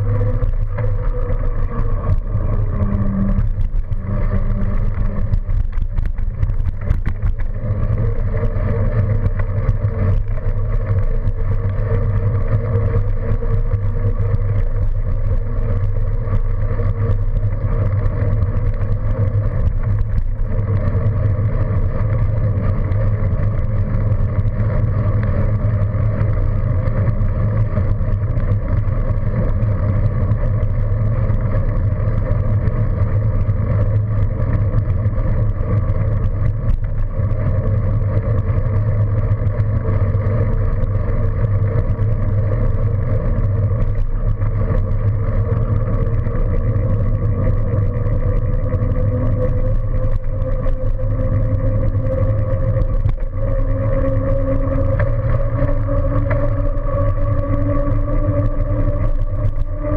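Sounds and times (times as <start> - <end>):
low hum: 0.0 - 59.9
road noise: 0.0 - 59.9.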